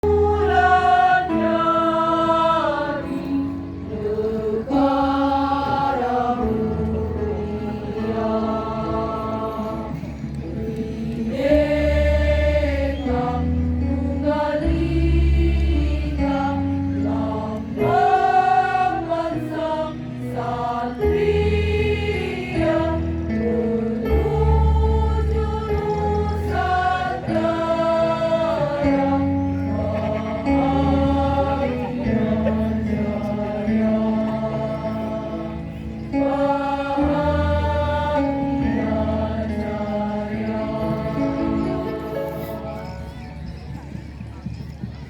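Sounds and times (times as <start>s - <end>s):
women's choir singing: 0.0s - 43.5s.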